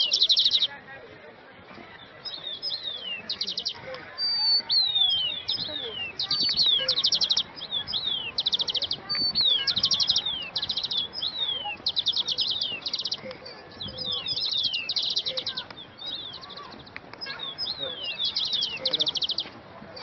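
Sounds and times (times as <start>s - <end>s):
songbird trills: 0.0s - 0.8s, 2.0s - 20.0s.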